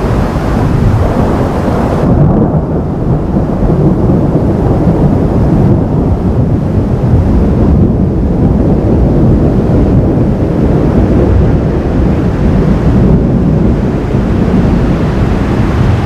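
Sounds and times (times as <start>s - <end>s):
thunder rumble: 0.0s - 16.0s.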